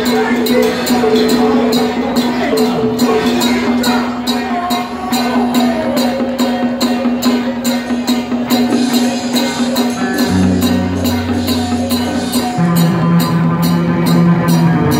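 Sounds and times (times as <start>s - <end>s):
cymbal strokes: 0.0s - 14.9s
music with steady beat: 0.0s - 14.9s.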